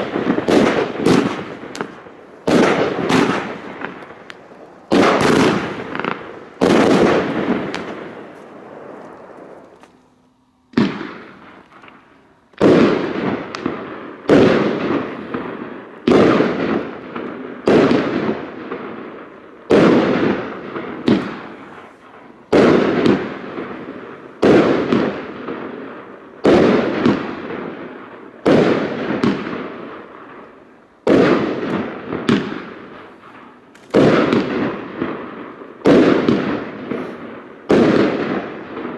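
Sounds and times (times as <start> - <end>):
fireworks sharp bangs: 0.0 - 38.9.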